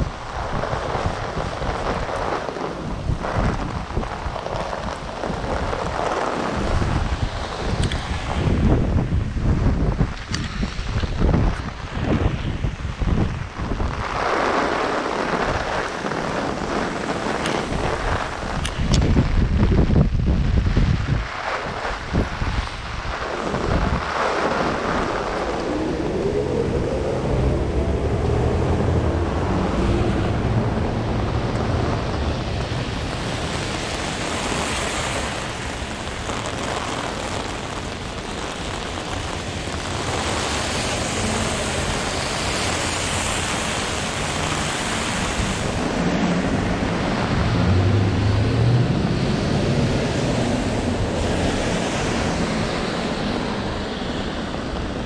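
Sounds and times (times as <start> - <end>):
heavy rain hiss: 0.0 - 55.0
wind buffeting microphone: 0.0 - 55.0.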